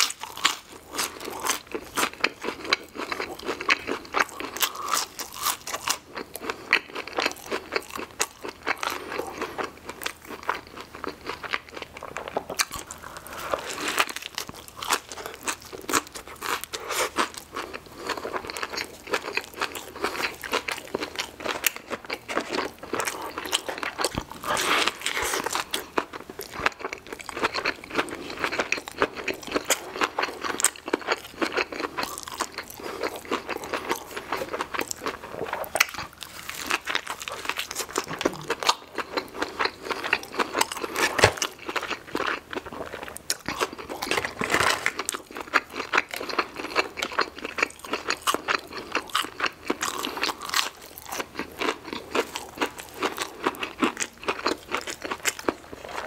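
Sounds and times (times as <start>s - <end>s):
crunching of crispy food: 0.0s - 56.0s.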